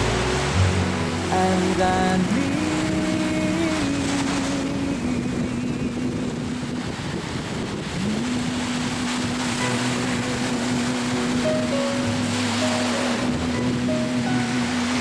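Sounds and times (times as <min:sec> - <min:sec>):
slow ballad music: 0:00.0 - 0:05.7, 0:07.8 - 0:15.0
surf washing over rocks: 0:00.0 - 0:15.0.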